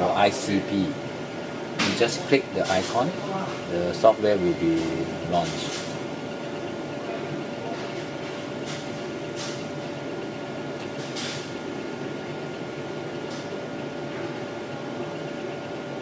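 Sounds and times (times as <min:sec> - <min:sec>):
equipment and ventilation hum: 0:00.0 - 0:16.0.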